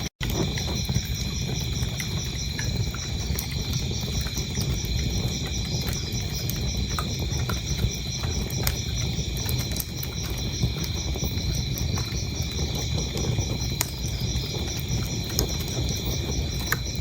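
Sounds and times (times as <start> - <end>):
wood fire crackling: 0.0 - 17.0
crickets chirping: 0.2 - 17.0.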